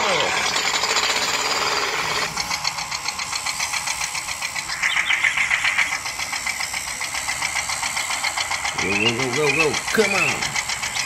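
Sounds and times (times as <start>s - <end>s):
toy tractor motor ticking: 0.0s - 11.0s.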